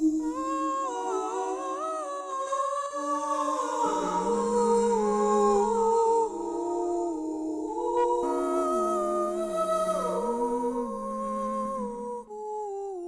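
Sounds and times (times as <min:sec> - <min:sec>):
wordless voices humming held notes: 0:00.0 - 0:13.0.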